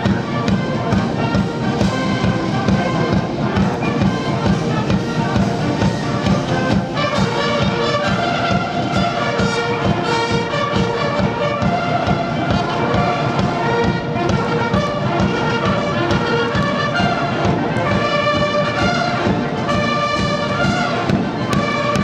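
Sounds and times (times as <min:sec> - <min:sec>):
bass drum beat: 0:00.0 - 0:22.0
military brass band playing a march: 0:00.0 - 0:22.0.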